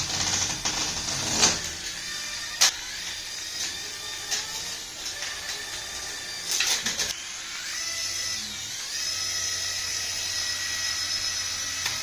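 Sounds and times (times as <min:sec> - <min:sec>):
small electric motor whine: 0:00.0 - 0:12.0.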